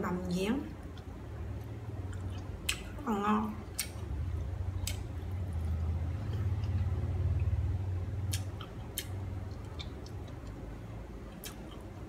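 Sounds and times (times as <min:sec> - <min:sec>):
steady low rumble: 0:00.0 - 0:12.0
person chewing food: 0:00.8 - 0:03.0, 0:03.6 - 0:07.6, 0:08.2 - 0:12.0.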